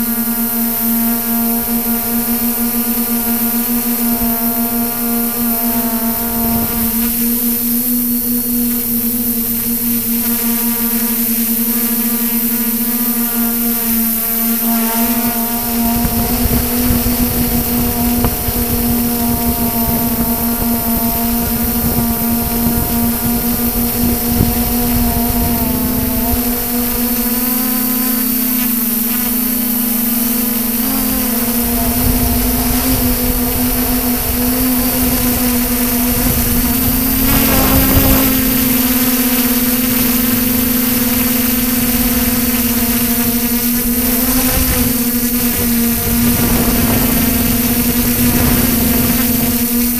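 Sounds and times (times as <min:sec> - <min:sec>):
drone motors buzzing: 0:00.0 - 0:49.9
wind rumble on microphone: 0:00.0 - 0:49.9.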